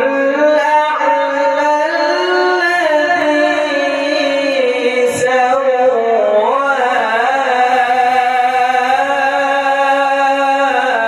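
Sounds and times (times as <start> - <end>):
man chanting a devotional hymn: 0.0 - 11.0.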